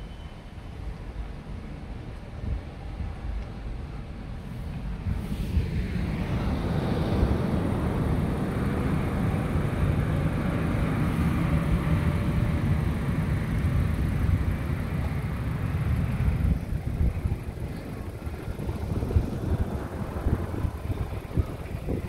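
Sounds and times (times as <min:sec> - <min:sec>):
road and engine noise inside car: 0:00.0 - 0:22.0.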